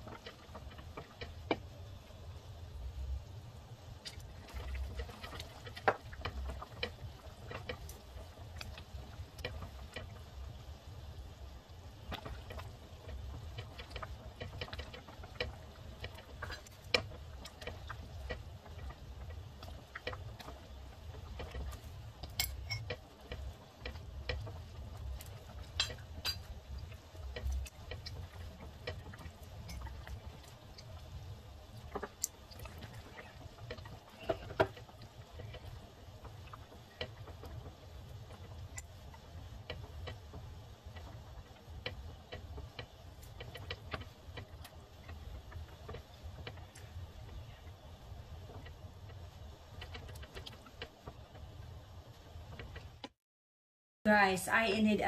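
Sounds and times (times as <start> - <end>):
low steady rumble: 0.0 - 53.0
whisk clicking and scraping pot: 0.0 - 53.2.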